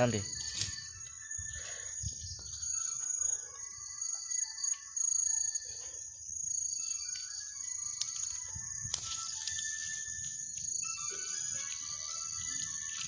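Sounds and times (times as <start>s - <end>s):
crickets and insects trilling: 0.0s - 13.0s.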